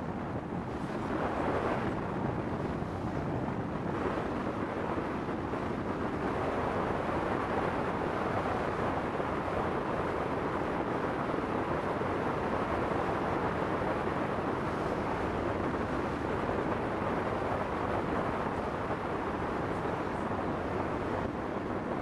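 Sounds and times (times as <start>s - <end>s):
boat under way on water: 0.0s - 22.0s
wind buffeting microphone: 0.0s - 22.0s.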